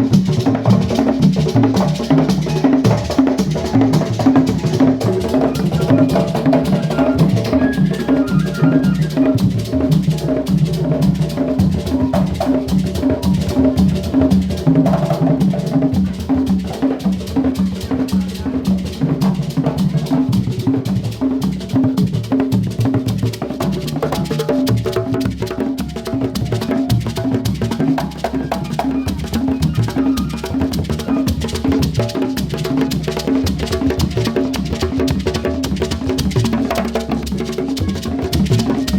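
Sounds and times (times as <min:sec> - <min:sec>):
percussion music with drums: 0:00.0 - 0:38.9.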